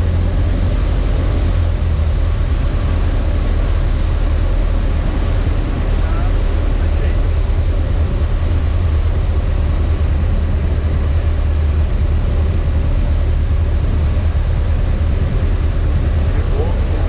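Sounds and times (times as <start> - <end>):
airflow noise: 0.0 - 17.0
airplane engine drone: 0.0 - 17.0.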